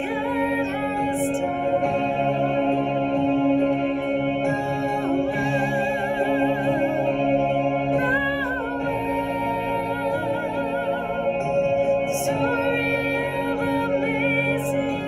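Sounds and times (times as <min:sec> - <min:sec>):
sustained backing chords: 0:00.0 - 0:15.0
woman singing slow melody: 0:00.0 - 0:15.0.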